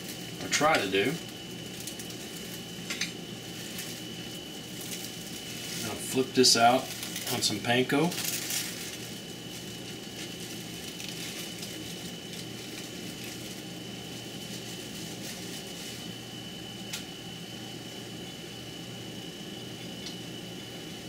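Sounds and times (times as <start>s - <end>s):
high whine: 0.0s - 21.0s
steady mechanical hum: 0.0s - 21.0s.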